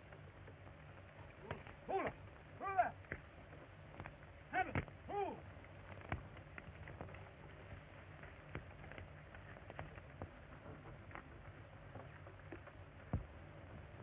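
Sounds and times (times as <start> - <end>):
old film soundtrack clicks and hum: 0.0 - 14.0.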